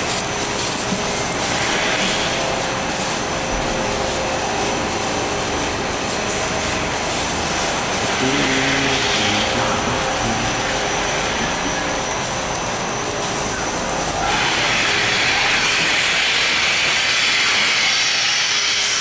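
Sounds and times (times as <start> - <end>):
milking machinery hiss and hum: 0.0 - 19.0.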